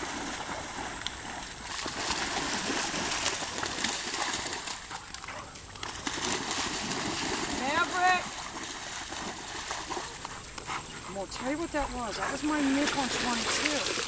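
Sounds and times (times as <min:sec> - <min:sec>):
dogs splashing through water: 0:00.0 - 0:14.0.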